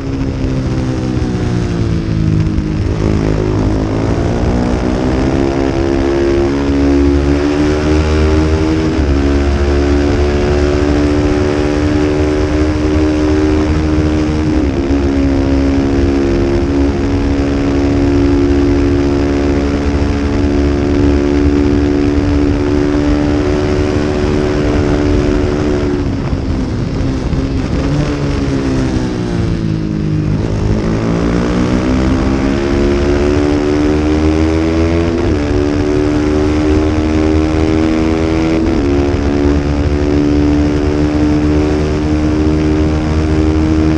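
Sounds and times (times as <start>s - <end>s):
low wind rumble: 0.0s - 43.9s
race motorcycle engine revving: 0.0s - 43.9s.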